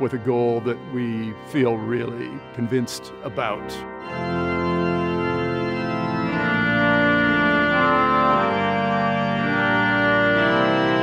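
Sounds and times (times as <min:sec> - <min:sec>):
pipe organ slow chords: 0:00.0 - 0:11.0.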